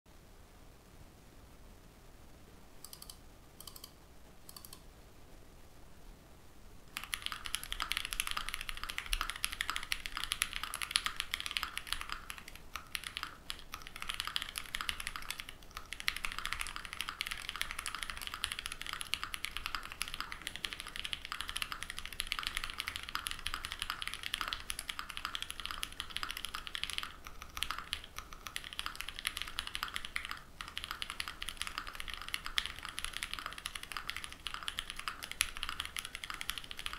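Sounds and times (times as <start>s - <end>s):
typing on mechanical keyboard: 2.8s - 3.9s, 6.9s - 36.9s.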